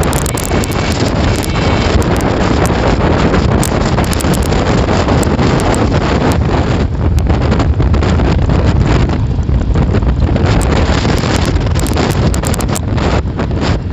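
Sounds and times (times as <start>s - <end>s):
road noise: 0.0s - 13.9s
wind buffeting microphone: 0.0s - 13.9s.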